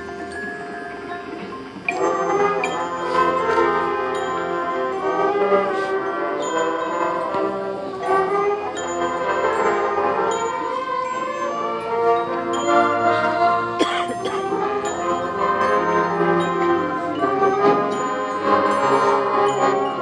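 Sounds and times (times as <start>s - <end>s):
bell-like mallet tones: 0.0s - 20.0s
marching band playing: 1.3s - 20.0s
brass section playing loudly: 1.9s - 20.0s.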